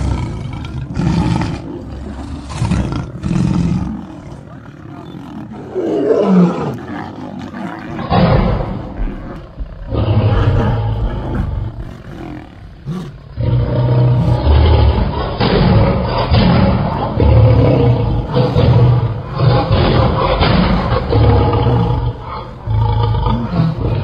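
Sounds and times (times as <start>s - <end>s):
lions roaring and snarling: 0.0s - 24.0s.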